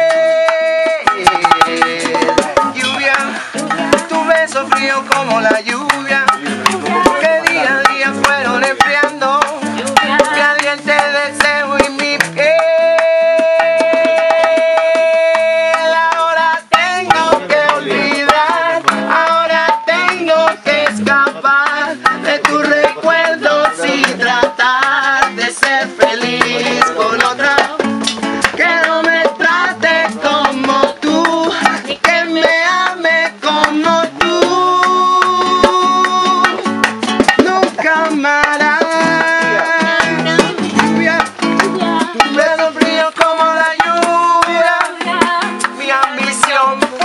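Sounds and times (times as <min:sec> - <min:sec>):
congas: 0:00.0 - 0:47.0
man singing: 0:00.0 - 0:47.0
shaker: 0:00.0 - 0:47.0
strummed classical guitar: 0:00.0 - 0:47.0.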